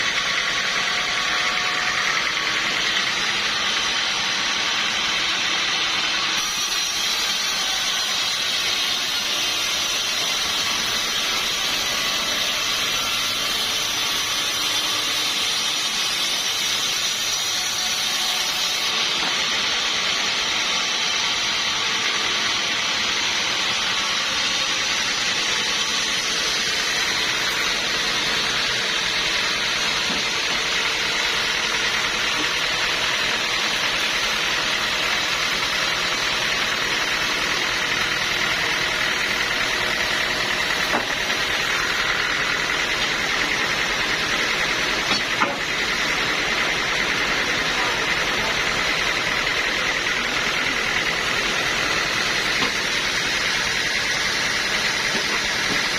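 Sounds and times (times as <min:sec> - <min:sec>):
sawmill machinery hissing: 0:00.0 - 0:55.9.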